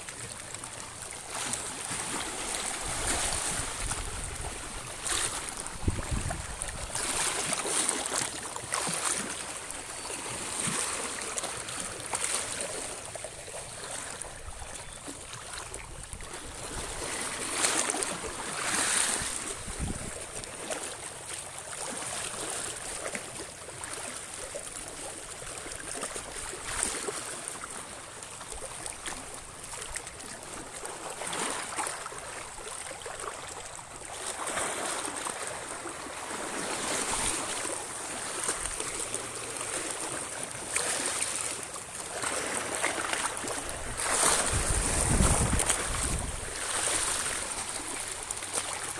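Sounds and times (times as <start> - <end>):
waves splashing over rocks: 0.0 - 14.5, 15.5 - 24.5, 25.8 - 48.9.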